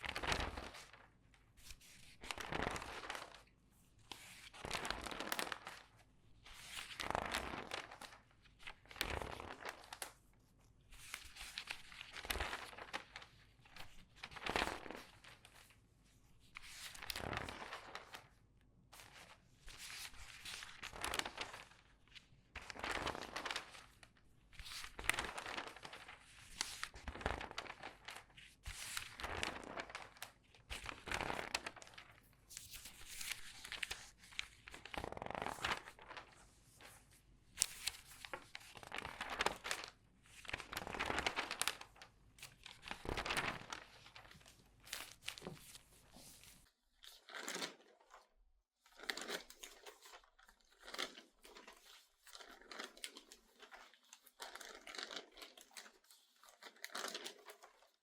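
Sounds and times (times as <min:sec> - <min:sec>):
newspaper pages rustling: 0:00.0 - 0:03.5, 0:04.2 - 0:10.2, 0:10.9 - 0:15.9, 0:16.5 - 0:18.3, 0:19.0 - 0:22.0, 0:22.6 - 0:48.2, 0:49.0 - 0:57.9.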